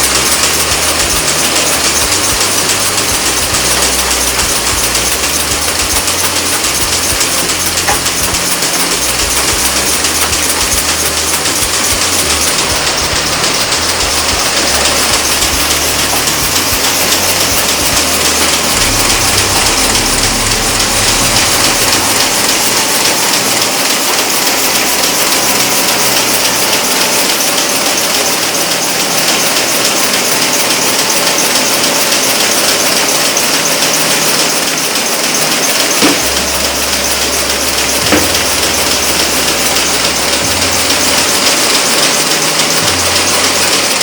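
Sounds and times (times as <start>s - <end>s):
print machinery rattling: 0.0s - 44.0s.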